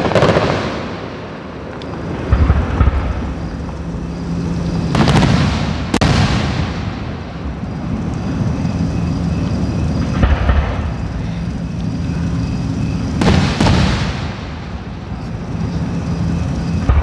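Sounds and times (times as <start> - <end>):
fireworks booming and crackling: 0.0 - 17.0.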